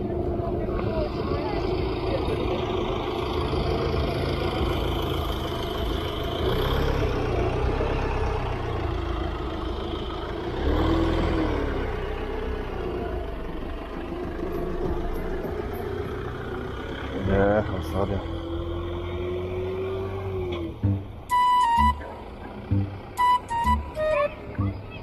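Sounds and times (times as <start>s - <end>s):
van engine low rumble: 0.0s - 25.0s.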